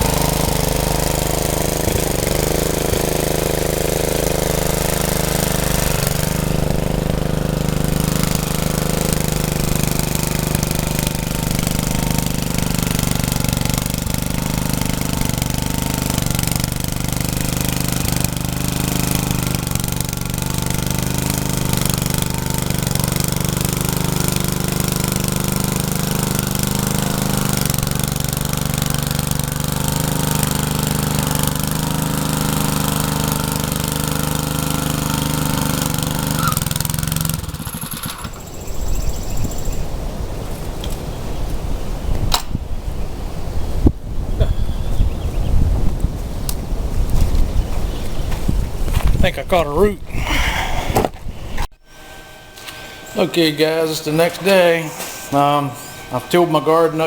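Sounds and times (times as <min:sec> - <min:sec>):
rototiller engine chugging: 0:00.0 - 0:41.5, 0:47.2 - 0:57.0.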